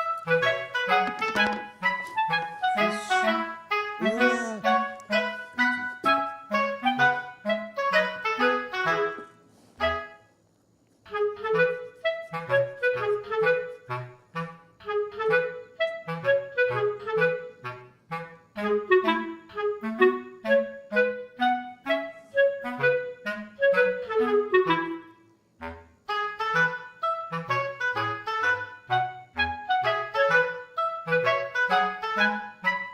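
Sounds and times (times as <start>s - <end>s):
light woodwind tune: 0.0s - 10.4s, 11.0s - 32.9s.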